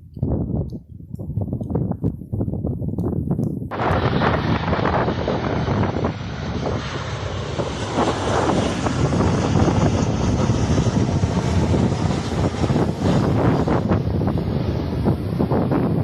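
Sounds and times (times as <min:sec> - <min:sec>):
airliner engine noise: 0:00.0 - 0:16.0
wind buffeting microphone: 0:00.0 - 0:16.0.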